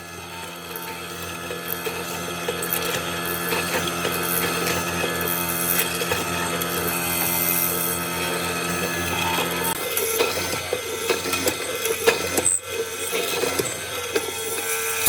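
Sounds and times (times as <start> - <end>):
power tool rattling and clicking: 0.5 - 15.0.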